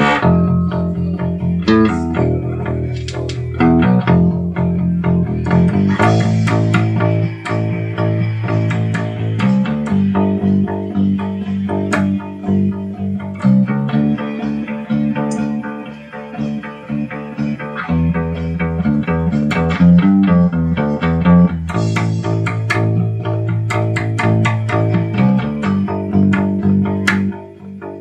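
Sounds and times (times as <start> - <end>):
bass guitar plucked notes: 0.0 - 28.0.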